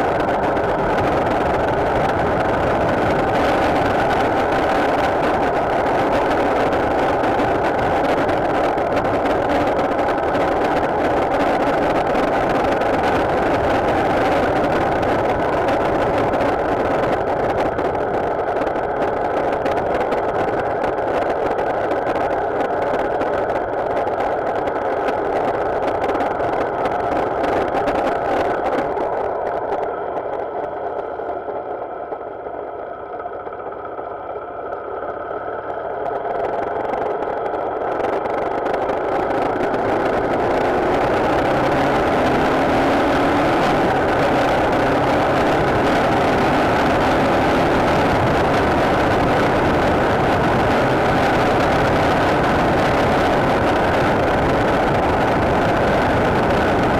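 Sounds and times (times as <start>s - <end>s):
motorcycle engine: 0.0s - 56.9s
road noise: 0.0s - 56.9s.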